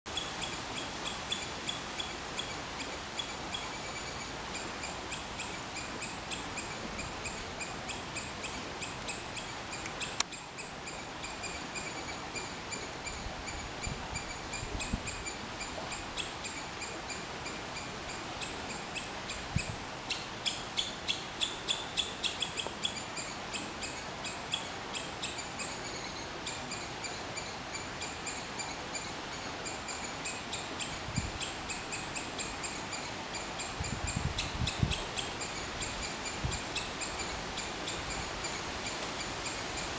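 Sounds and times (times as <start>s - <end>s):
squirrel chirping: 0.2s - 39.6s.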